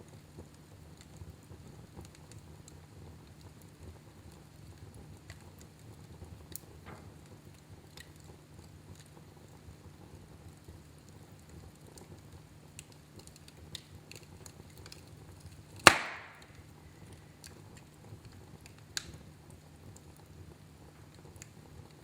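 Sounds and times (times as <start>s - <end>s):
wood fire crackling faintly: 0.0s - 22.0s
fire popping: 0.1s - 22.0s.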